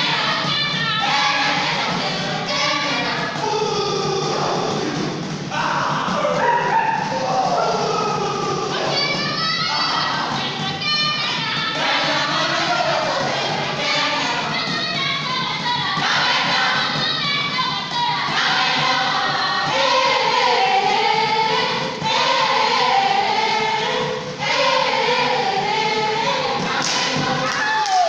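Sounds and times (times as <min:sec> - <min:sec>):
girls singing together: 0:00.0 - 0:28.0.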